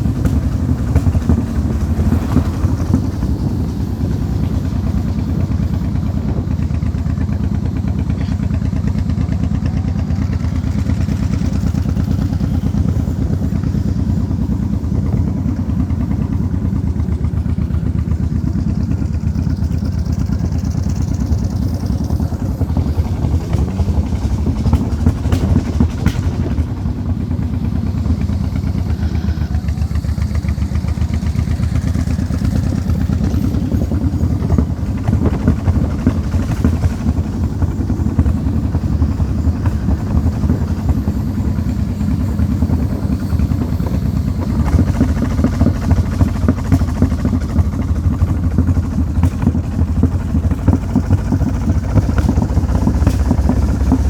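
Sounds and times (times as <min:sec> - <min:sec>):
engine rumbling: 0:00.0 - 0:54.0.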